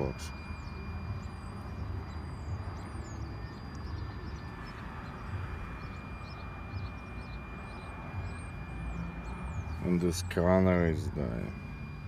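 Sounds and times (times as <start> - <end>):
birds chirping: 0.0 - 12.0
high-pitched tone: 0.0 - 12.0
low background rumble: 0.0 - 12.0.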